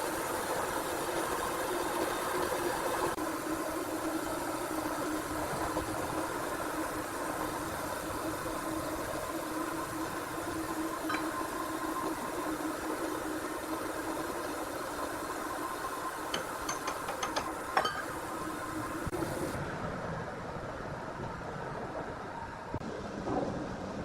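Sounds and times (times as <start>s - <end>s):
sawmill machinery humming: 0.0s - 19.6s.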